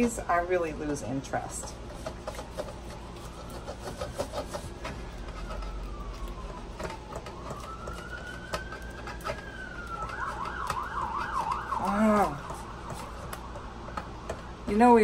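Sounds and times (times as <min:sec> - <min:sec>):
spoon stirring in metal pot: 0:00.0 - 0:15.0
emergency vehicle siren: 0:02.5 - 0:14.8.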